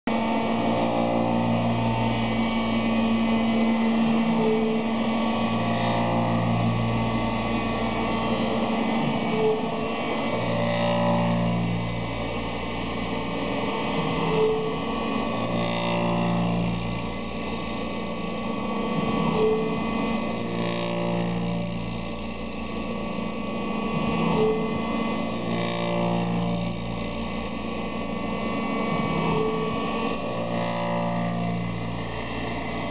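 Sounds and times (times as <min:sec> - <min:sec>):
end mill cutting plastic: 0:00.1 - 0:32.9
milling machine humming: 0:00.1 - 0:32.9.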